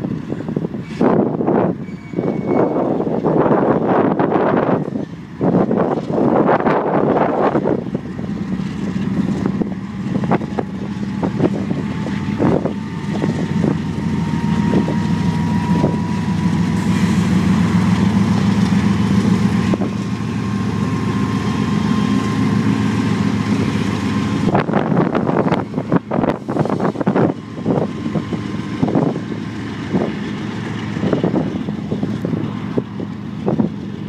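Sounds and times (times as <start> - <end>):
locomotive engine drone: 0.0 - 34.0.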